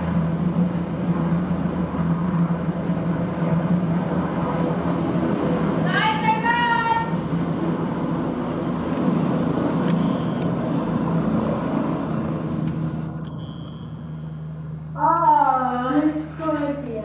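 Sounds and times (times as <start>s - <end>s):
helicopter rotors and engines: 0.0s - 17.0s.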